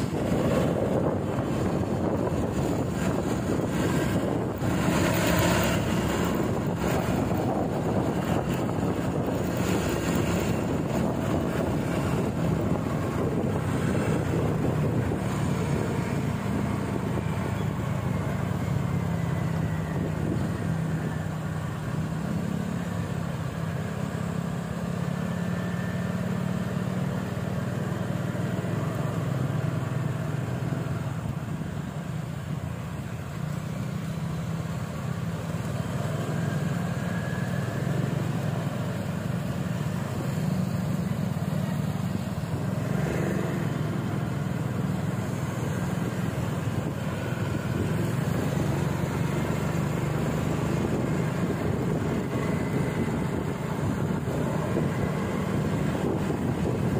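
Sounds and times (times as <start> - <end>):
vehicle engine running: 0.0 - 20.6, 26.8 - 56.9.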